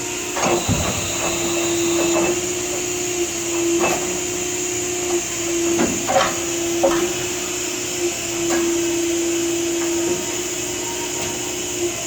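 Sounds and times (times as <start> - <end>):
machine hum with high hiss: 0.0 - 12.0.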